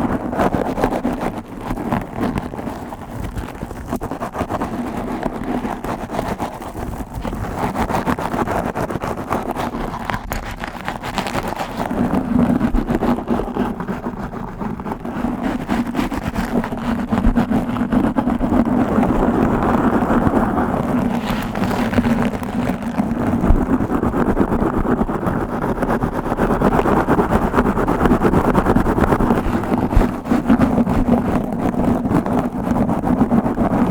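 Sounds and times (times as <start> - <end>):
fingers scratching on microphone: 0.0 - 33.9.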